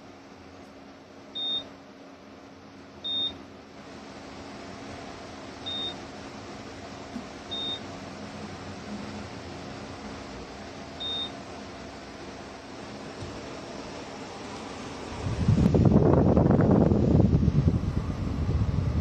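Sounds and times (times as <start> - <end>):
tower fan humming: 0.0 - 19.0.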